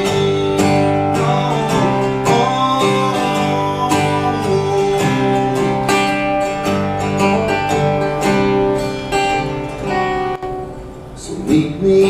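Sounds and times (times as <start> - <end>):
acoustic guitar strumming: 0.0 - 12.0
live folk-rock band: 0.0 - 12.0.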